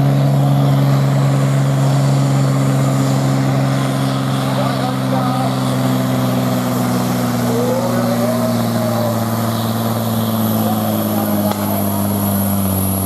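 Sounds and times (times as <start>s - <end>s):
rising whine: 0.0s - 13.0s
tractor engine running: 0.0s - 13.0s.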